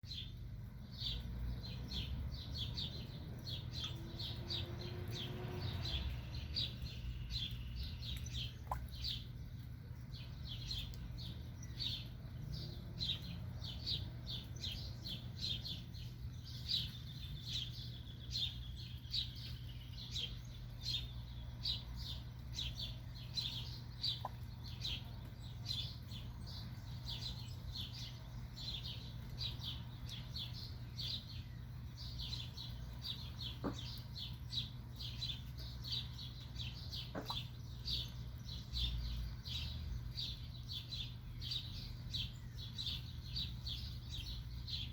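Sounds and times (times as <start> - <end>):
steady low hum: 6.1 - 44.9.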